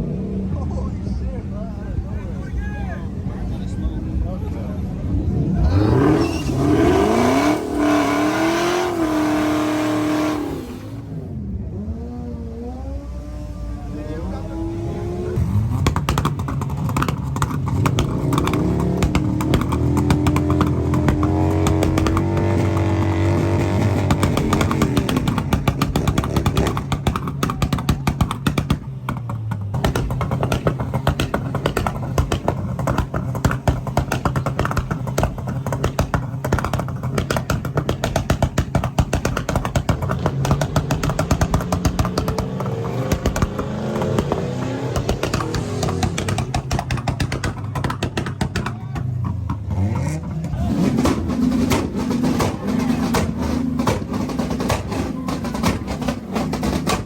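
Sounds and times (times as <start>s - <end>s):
car engine revving: 3.1s - 57.0s
exhaust pops and crackles: 5.6s - 11.4s, 14.1s - 57.0s.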